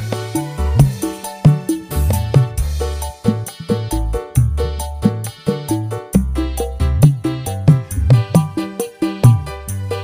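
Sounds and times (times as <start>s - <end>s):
hand drums in quick rhythm: 0.0s - 9.6s
instrumental backing track: 0.0s - 10.0s.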